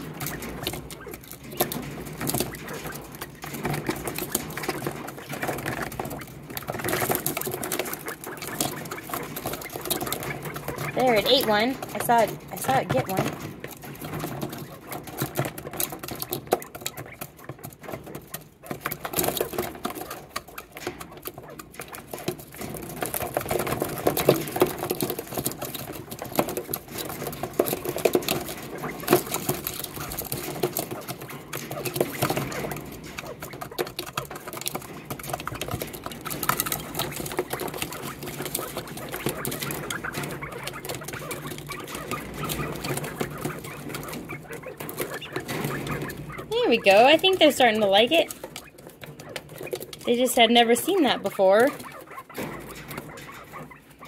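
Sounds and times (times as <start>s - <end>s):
quail beaks tapping on plastic: 0.0s - 54.0s.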